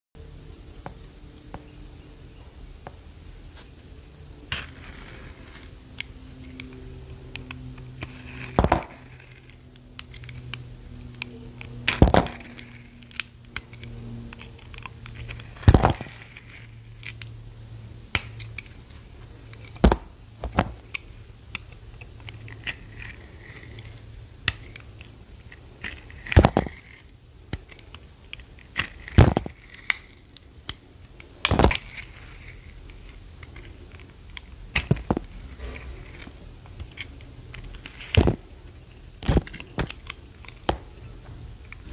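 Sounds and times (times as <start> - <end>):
low steady hum: 0.2 - 41.9.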